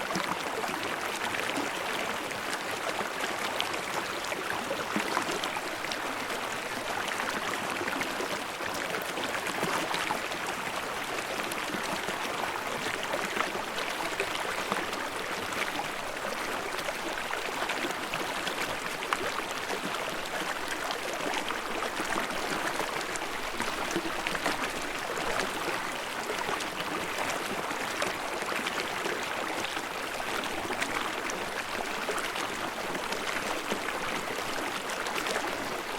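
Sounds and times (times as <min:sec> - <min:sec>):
stream running over rocks: 0:00.0 - 0:35.9.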